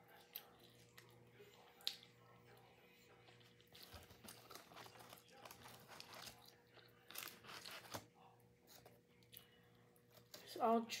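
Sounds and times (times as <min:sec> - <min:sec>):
chewing with crunches: 0:00.0 - 0:10.4.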